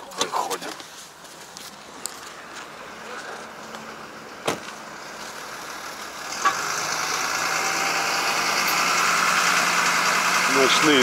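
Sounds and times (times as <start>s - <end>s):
diesel truck engine running: 1.8s - 11.0s.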